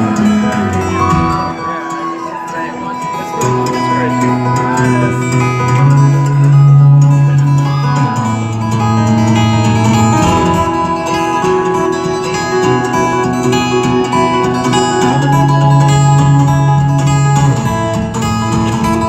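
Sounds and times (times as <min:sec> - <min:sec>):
twelve-string acoustic guitar: 0:00.0 - 0:19.0.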